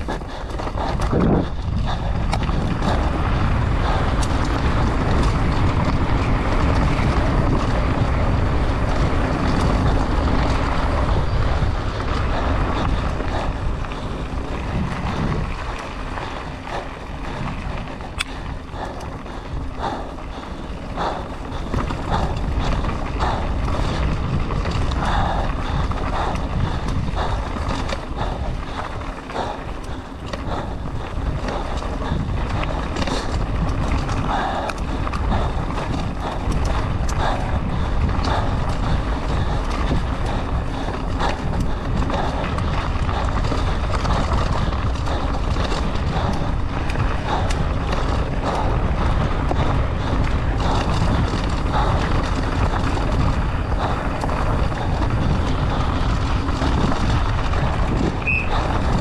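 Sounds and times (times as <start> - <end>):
bike tyres and frame rattling: 0.0 - 59.0
wind buffeting microphone: 0.0 - 59.0.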